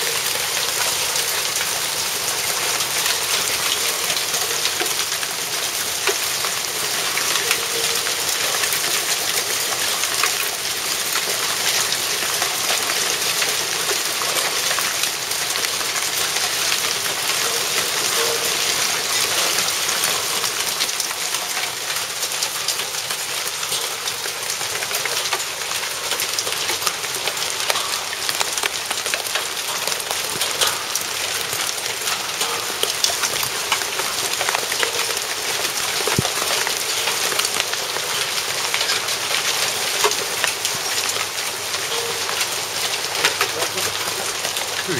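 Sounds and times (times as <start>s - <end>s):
hail pelting on concrete and roof: 0.0s - 44.9s.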